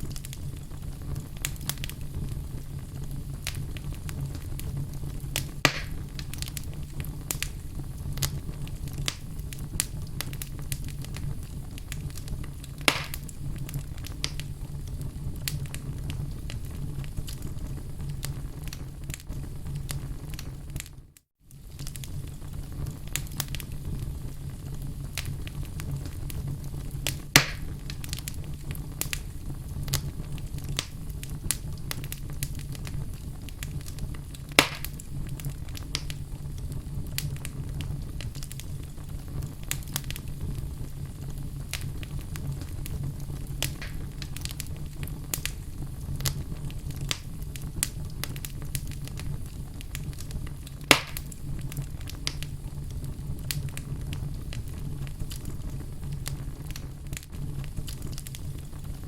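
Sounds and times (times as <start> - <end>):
fire crackling: 0.0 - 59.0
fire flames rumbling: 0.0 - 59.0
loud fire pops: 0.0 - 59.0.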